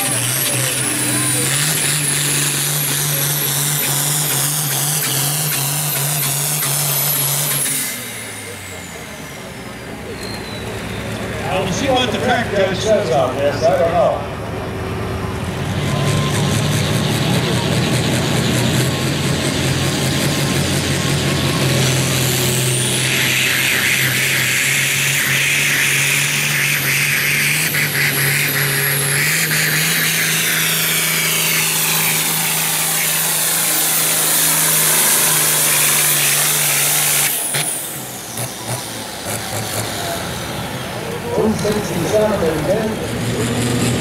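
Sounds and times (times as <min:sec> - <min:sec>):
high turbo whine: 0:00.0 - 0:44.0
tractor diesel engine at full throttle: 0:00.0 - 0:44.0.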